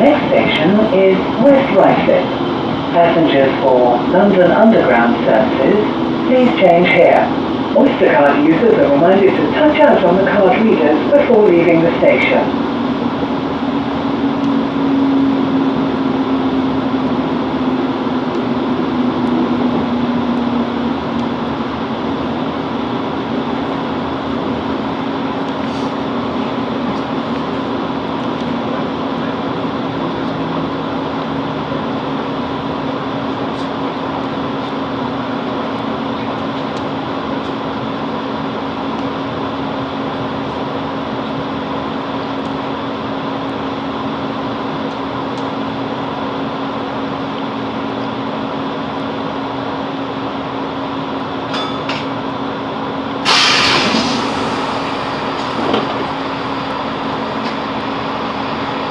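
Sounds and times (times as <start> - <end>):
train diesel engine idling: 0.0 - 58.9.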